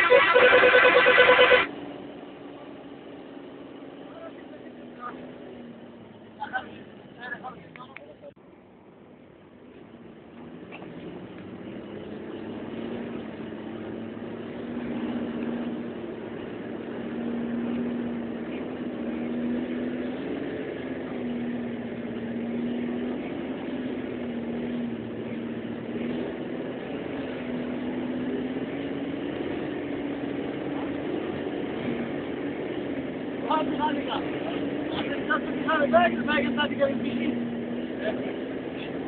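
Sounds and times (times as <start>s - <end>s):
bus engine droning: 0.0s - 39.0s
road noise: 0.0s - 39.0s.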